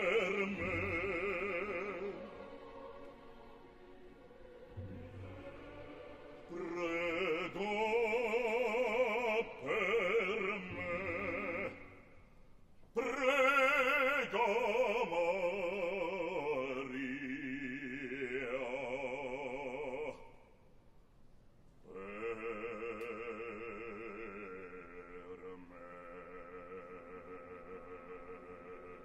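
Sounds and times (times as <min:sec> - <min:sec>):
man singing opera: 0:00.0 - 0:03.2, 0:05.2 - 0:12.3, 0:12.9 - 0:20.5, 0:21.8 - 0:29.0.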